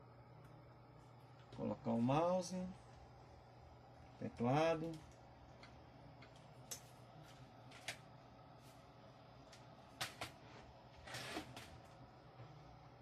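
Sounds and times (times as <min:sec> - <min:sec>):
computer hum: 0:00.0 - 0:13.0.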